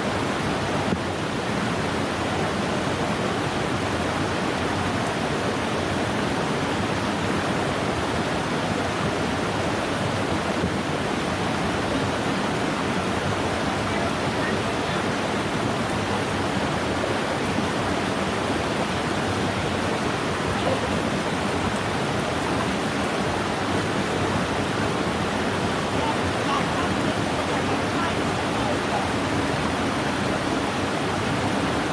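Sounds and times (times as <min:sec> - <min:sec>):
stream rushing water: 0:00.0 - 0:31.9.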